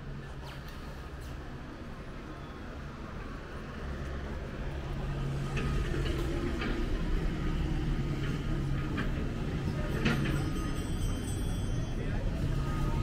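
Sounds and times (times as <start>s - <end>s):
city street noise: 0.0s - 13.0s
passing vehicle engine rumble: 0.9s - 13.0s.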